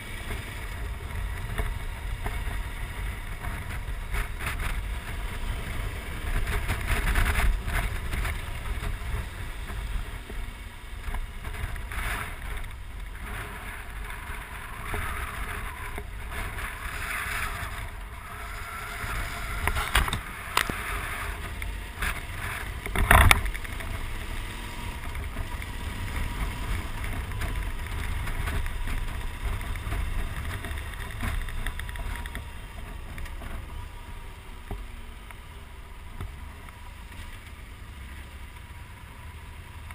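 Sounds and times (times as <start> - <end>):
wind rushing over microphone: 0.0 - 34.3
motorcycle engine droning: 0.0 - 39.9.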